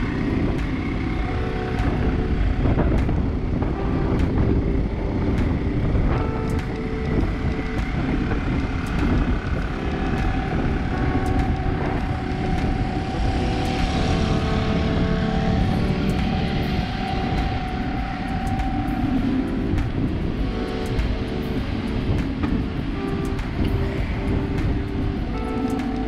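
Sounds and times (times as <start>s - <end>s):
bicycle road noise: 0.0s - 26.0s
steady tones: 0.0s - 26.0s
wind rushing over microphone: 0.0s - 26.0s.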